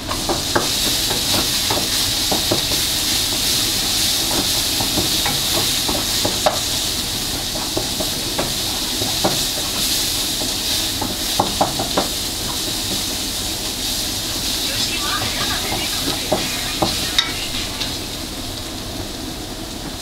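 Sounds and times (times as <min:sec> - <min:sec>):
food sizzling in hot oil: 0:00.1 - 0:20.0.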